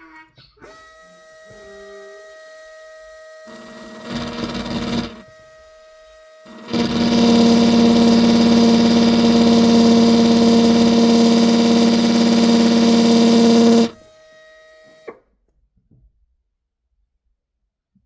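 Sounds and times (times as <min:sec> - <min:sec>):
drill whining: 0:00.6 - 0:15.2.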